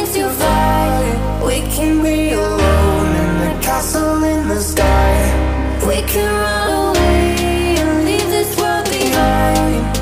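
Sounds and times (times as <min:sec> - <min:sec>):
pop-style soundtrack music: 0:00.0 - 0:10.0.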